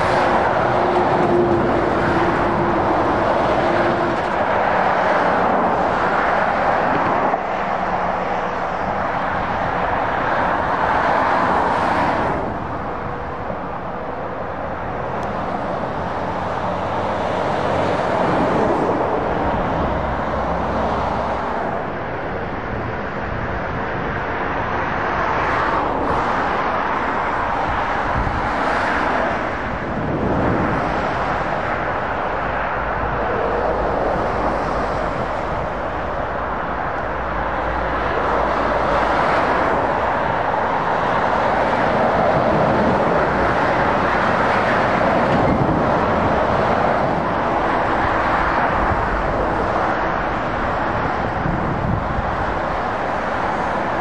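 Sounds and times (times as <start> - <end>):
motorway traffic passing: 0.0 - 54.0.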